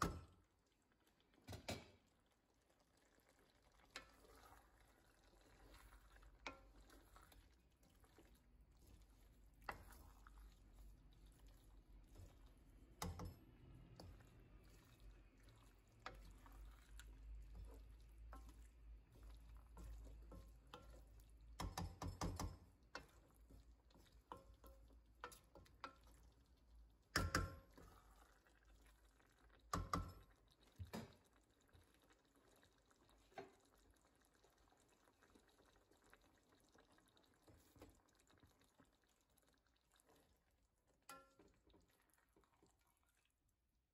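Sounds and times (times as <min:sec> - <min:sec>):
stew simmering in a pan: 0:00.0 - 0:43.9.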